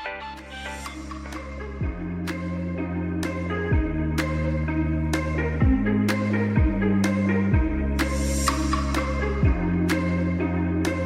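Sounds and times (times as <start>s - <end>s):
electronic music with steady beat: 0.0s - 11.0s
sliding deep bass line: 0.0s - 11.0s.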